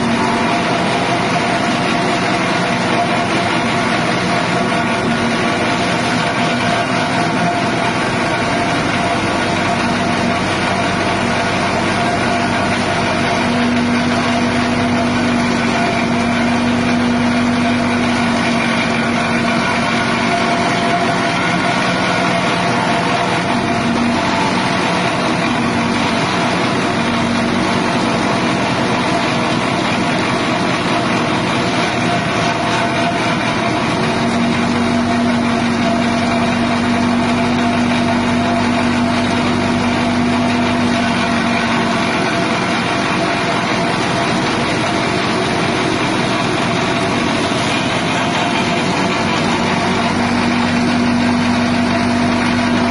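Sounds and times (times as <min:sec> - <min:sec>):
grass chopper engine running: 0:00.0 - 0:52.9.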